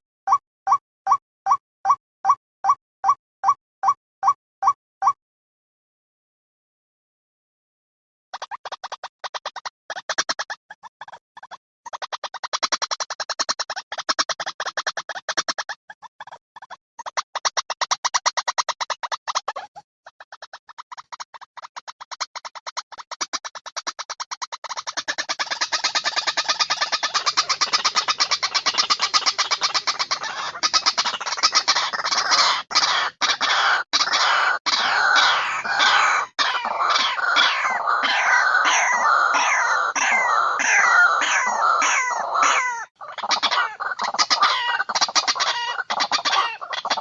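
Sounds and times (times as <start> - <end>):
bird calls with clicking notes: 8.4 - 47.0
harsh overlapping bird calls: 8.4 - 47.0.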